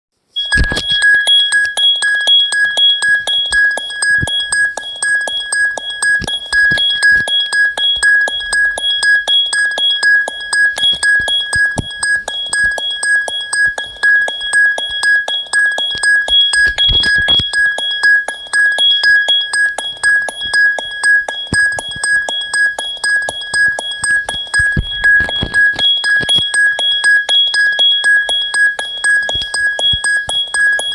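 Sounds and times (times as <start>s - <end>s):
quick clicking rhythm: 0.4s - 30.9s
ringtone pulsing beep: 0.4s - 30.9s.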